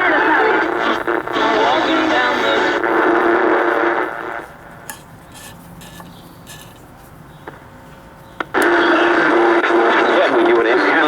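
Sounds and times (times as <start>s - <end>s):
radio music thin and narrow: 0.0s - 6.8s, 7.4s - 11.0s
faint crackles: 0.0s - 11.0s
radio hiss: 0.0s - 11.0s.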